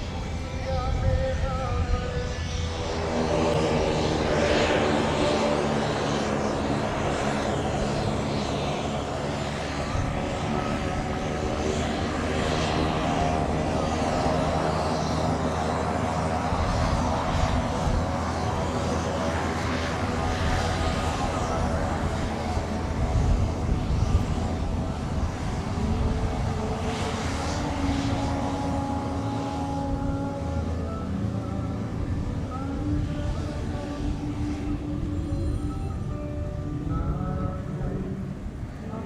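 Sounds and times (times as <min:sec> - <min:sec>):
turboprop engine droning: 0:00.0 - 0:39.0.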